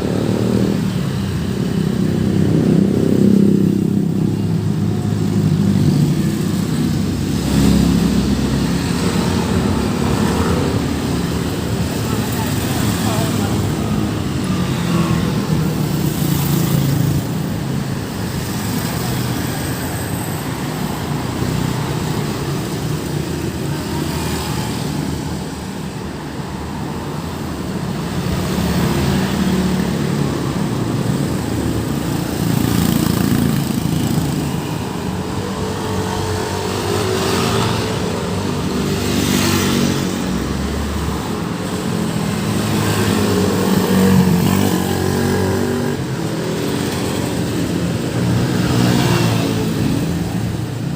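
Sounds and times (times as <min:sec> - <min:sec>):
car and motorcycle engines passing: 0:00.0 - 0:50.9.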